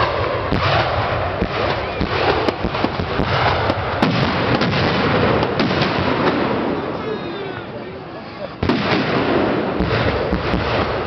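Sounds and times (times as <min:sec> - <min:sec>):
sharp firework bangs: 0:00.0 - 0:07.2, 0:08.6 - 0:11.0
fireworks bursting din: 0:00.0 - 0:11.0.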